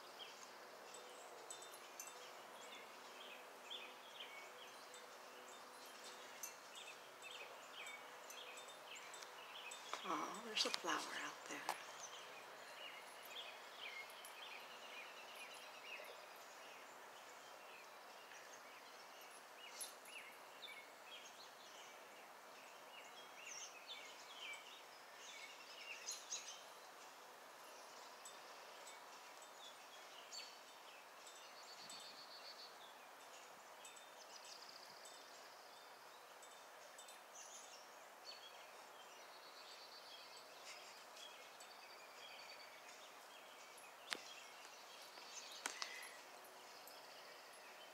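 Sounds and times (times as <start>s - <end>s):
faint birdsong chirps and trills: 0.0s - 47.9s
steady soft hiss: 0.0s - 47.9s.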